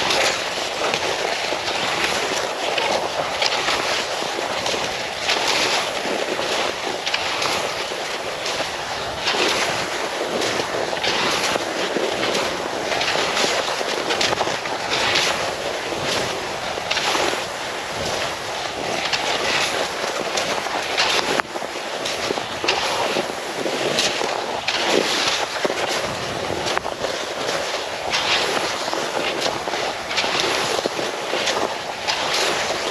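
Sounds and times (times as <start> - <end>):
skis swishing over snow: 0.0 - 32.9
wind noise on microphone: 0.0 - 32.9.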